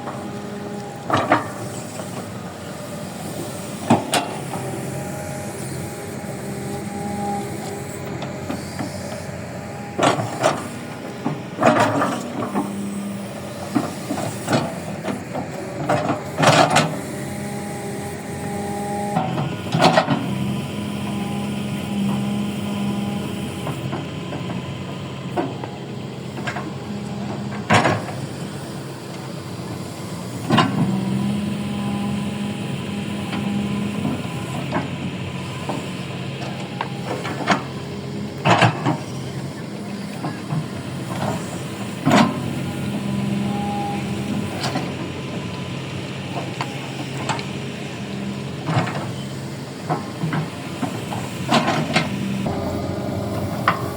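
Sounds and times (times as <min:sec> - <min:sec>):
excavator humming: 0:00.0 - 0:53.9.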